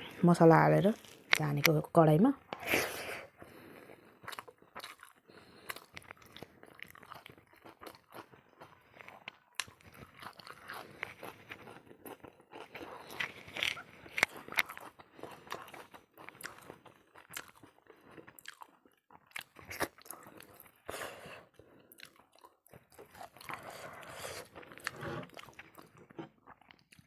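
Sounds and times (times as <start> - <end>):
person chewing and crunching food: 0.8 - 1.8, 2.5 - 27.0.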